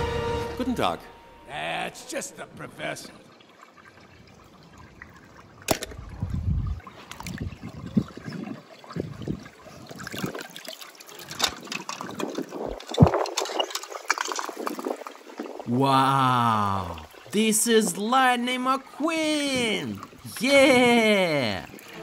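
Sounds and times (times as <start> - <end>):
water splashing and trickling: 1.5 - 22.0.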